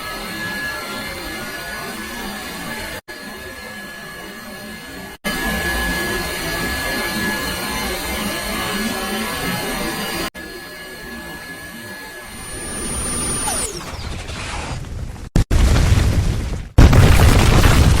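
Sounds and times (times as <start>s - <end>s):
mechanical drone with high whine: 0.0s - 14.7s.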